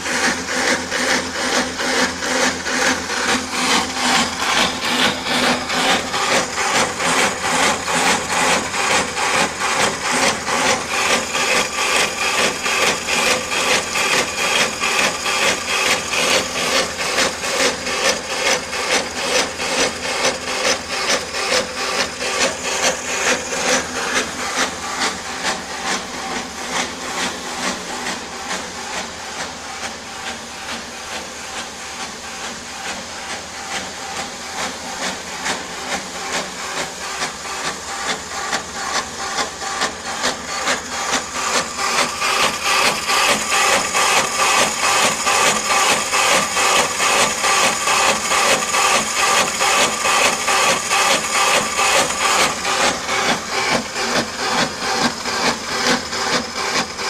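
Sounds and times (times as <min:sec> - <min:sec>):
boring machine grinding metal: 0:00.0 - 0:57.0.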